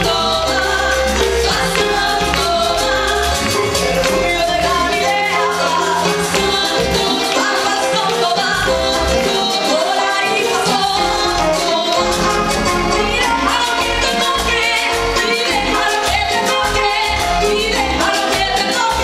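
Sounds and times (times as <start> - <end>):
band with congas and keyboard: 0.0 - 19.0
shaken percussion: 0.0 - 19.0
women singing: 0.0 - 19.0.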